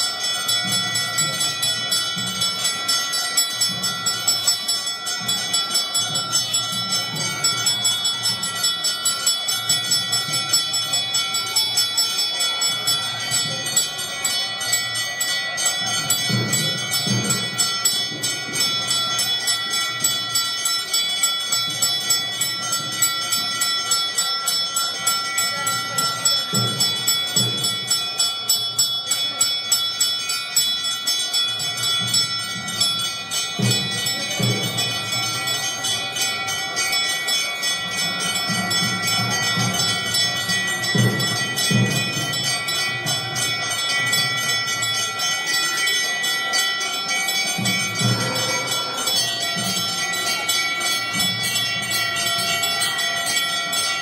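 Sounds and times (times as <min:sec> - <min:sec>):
temple bells ringing: 0:00.0 - 0:54.0.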